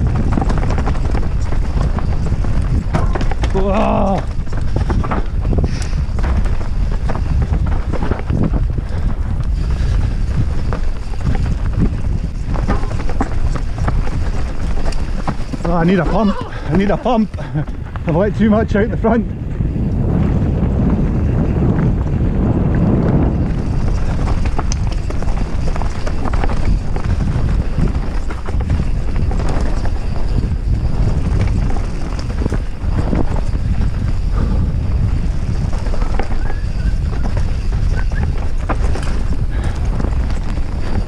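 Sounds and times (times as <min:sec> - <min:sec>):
mountain bike rattling over rocks: 0:00.0 - 0:41.0
wind rumble on microphone: 0:00.0 - 0:41.0.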